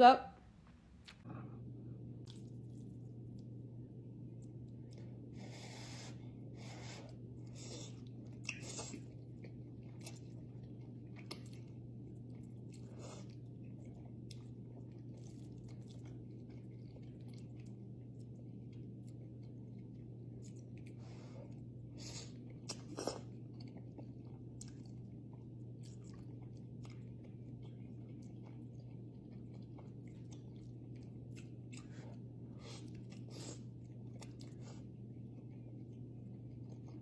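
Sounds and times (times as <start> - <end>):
steady low hum: 0.0 - 37.0
chewing and biting noodles: 6.6 - 37.0.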